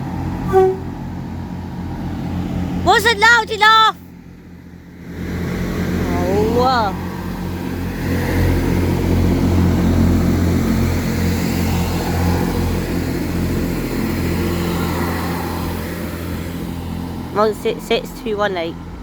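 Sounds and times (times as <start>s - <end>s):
train diesel engines humming: 0.0s - 19.0s.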